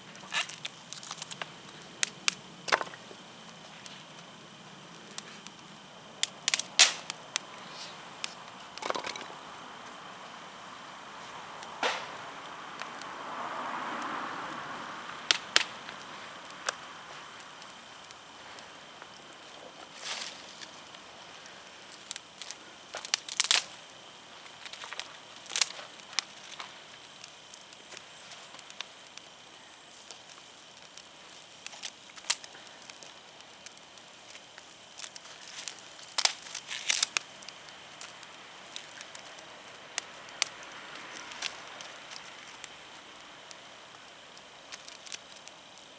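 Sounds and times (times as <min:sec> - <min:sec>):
faint steady hiss: 0:00.0 - 0:45.9
wood fire crackling: 0:00.0 - 0:45.9.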